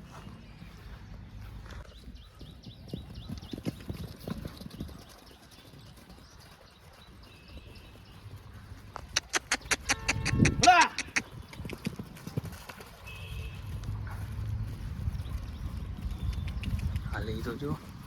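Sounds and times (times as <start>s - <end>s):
horse hooves clopping: 0.0s - 18.0s.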